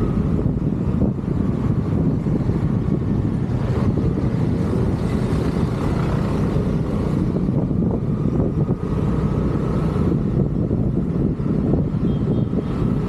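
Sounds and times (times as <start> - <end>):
road noise: 0.0 - 13.0
wind on microphone: 0.0 - 13.0.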